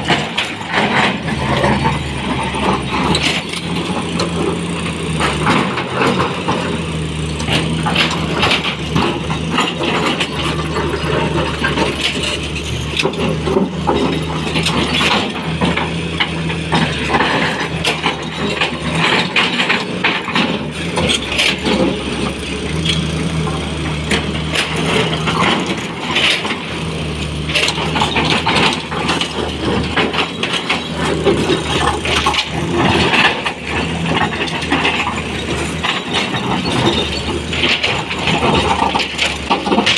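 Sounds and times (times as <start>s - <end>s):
excavator diesel engine under load: 0.0s - 39.9s.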